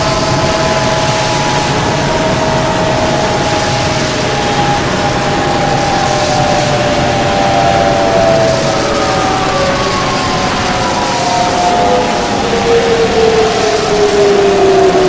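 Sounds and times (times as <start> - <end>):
engines roaring: 0.0 - 15.0
whining tones falling in pitch: 0.0 - 15.0.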